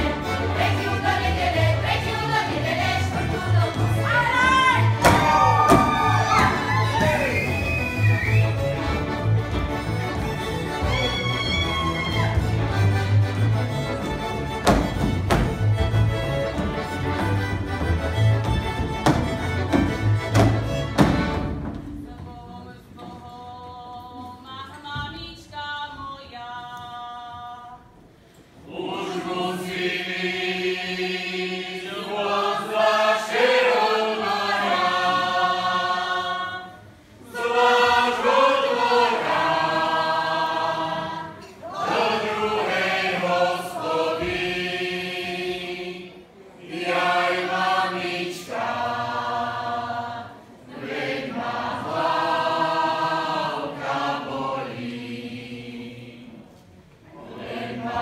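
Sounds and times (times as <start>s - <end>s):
group singing folk song: 0.0s - 25.1s, 26.2s - 58.0s.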